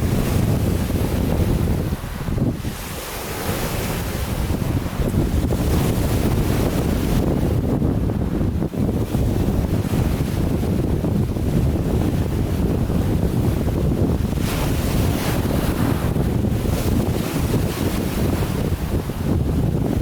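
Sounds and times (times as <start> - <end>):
lake waves breaking: 0.0 - 20.0
wind buffeting microphone: 0.0 - 20.0.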